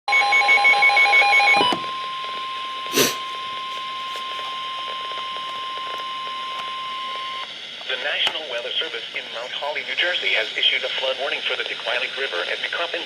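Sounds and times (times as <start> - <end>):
steady high warning tone: 0.1 - 13.0.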